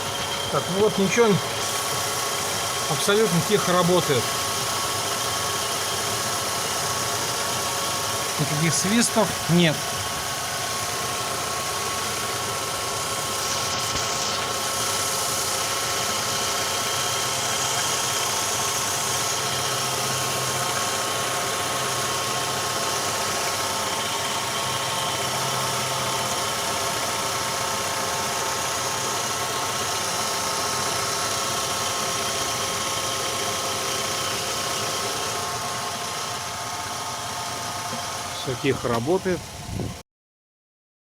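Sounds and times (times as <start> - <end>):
petrol engine running: 0.0 - 39.7.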